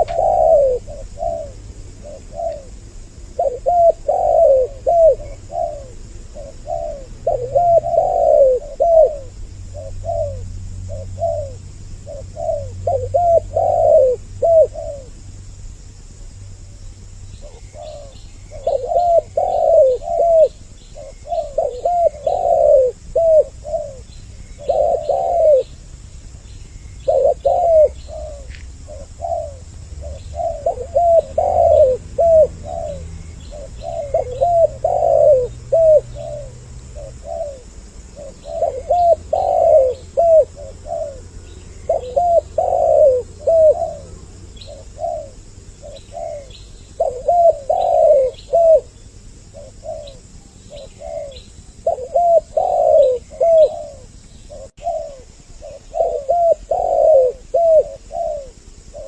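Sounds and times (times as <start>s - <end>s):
doves cooing: 0.0s - 15.2s, 16.7s - 59.0s.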